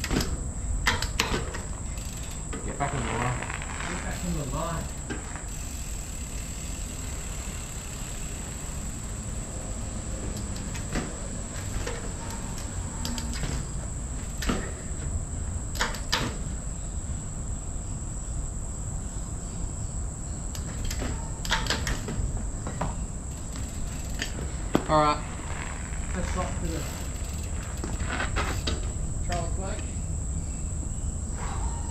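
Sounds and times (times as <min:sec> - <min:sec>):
mountain bike clunking and knocking: 0:00.0 - 0:16.6, 0:20.6 - 0:29.9.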